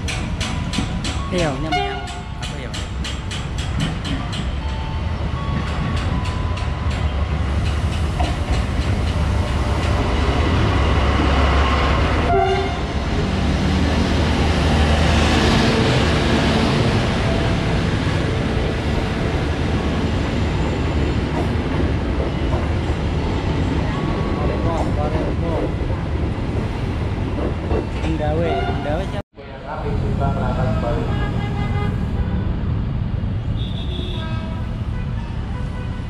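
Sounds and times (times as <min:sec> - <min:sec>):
train rumbling past: 0:00.0 - 0:33.8.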